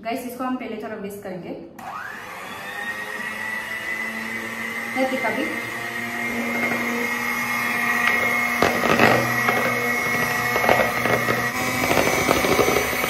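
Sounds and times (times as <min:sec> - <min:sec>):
electric mixer whisking: 0:01.8 - 0:13.0.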